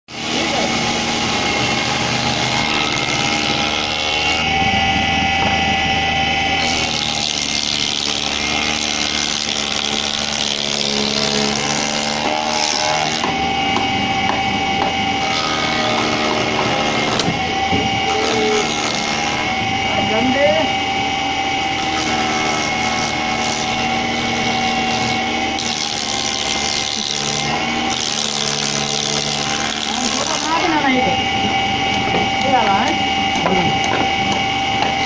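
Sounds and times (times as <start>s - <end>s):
cutter shaping wooden plank: 0.1s - 35.0s
spindle moulder whining: 0.1s - 35.0s.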